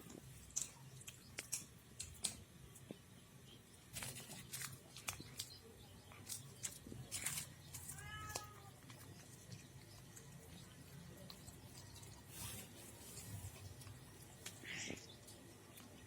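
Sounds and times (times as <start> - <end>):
cats crunching on bone: 0.0 - 3.1, 3.8 - 16.0.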